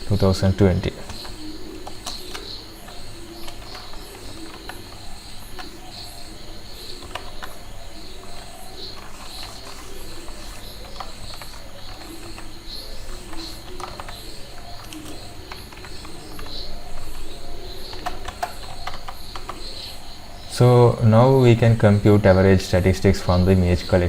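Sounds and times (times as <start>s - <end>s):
keyboard keys clicking: 0.0s - 20.5s
steady low hum: 0.0s - 24.0s.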